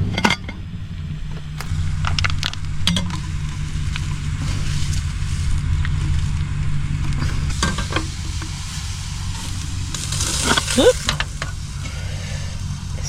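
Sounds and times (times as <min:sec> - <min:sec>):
low steady hum: 0:00.0 - 0:13.0
rain on a car roof: 0:01.0 - 0:13.0.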